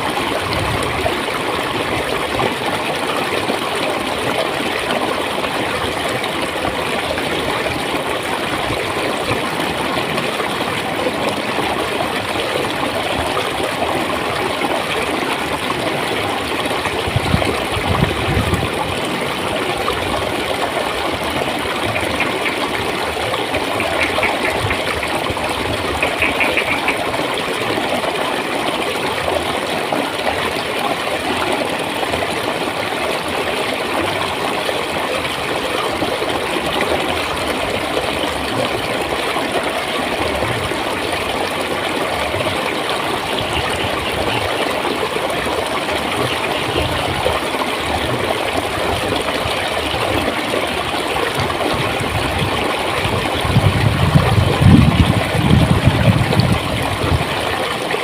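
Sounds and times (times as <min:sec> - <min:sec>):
high bubbling: 0:00.0 - 0:58.0
water flowing and gurgling: 0:00.0 - 0:58.0.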